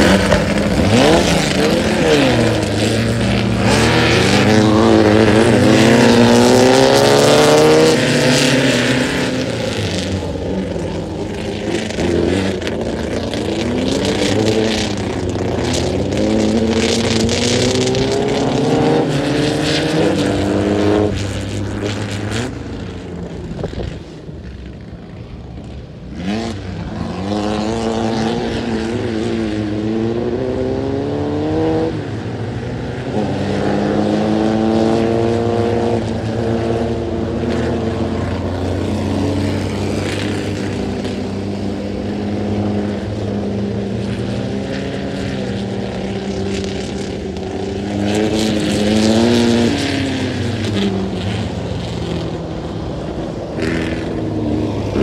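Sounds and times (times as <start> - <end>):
buggy engine revving hard: 0.0 - 24.0, 25.2 - 55.0.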